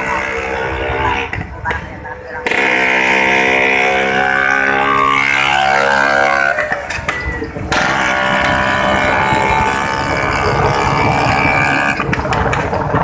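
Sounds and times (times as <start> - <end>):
scooter engines droning: 0.0 - 13.0.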